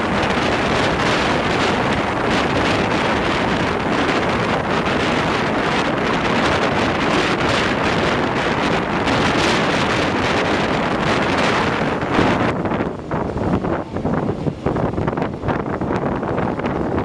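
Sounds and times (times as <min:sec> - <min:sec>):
train running noise: 0:00.0 - 0:17.0
wind rushing over microphone: 0:00.0 - 0:17.0.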